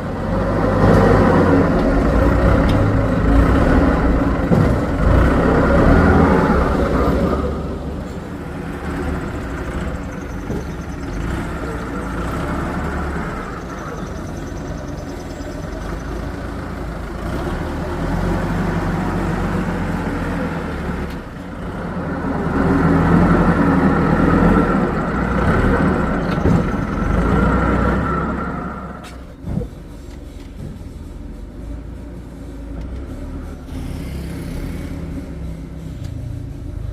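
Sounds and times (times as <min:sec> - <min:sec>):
diesel engine under load: 0:00.0 - 0:36.9.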